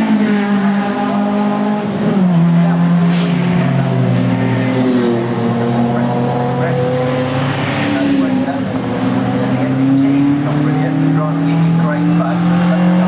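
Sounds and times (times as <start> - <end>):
race car engine running hard: 0.0 - 13.0.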